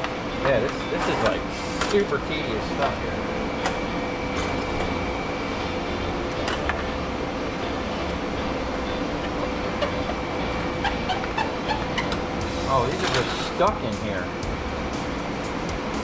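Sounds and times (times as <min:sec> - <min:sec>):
machine hum with whine: 0:00.0 - 0:16.0.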